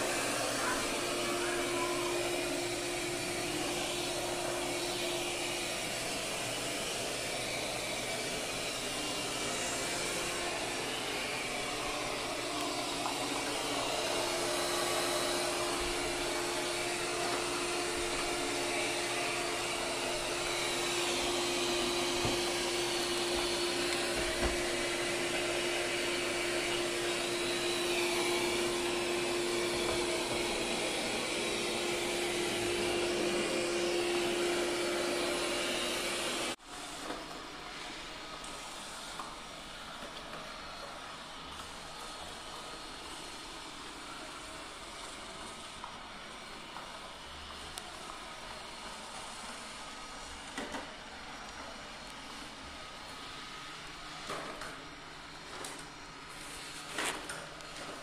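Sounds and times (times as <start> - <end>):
robot vacuum whirring: 0.0 - 58.0.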